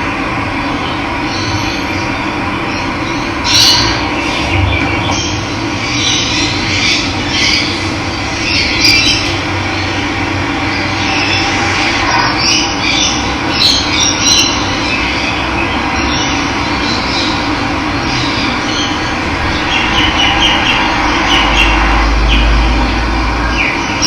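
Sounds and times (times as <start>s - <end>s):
birds chirping: 0.6s - 24.0s.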